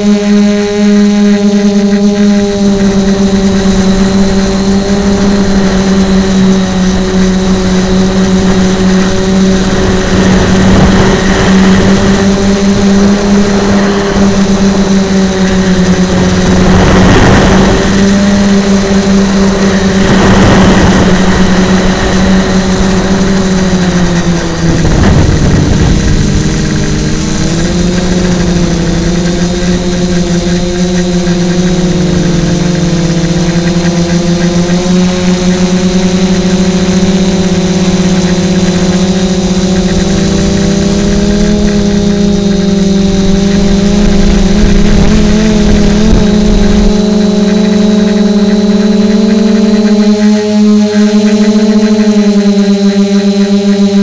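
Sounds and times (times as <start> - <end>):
quadcopter motors buzzing: 0.0 - 54.0
rushing noise: 2.4 - 49.7.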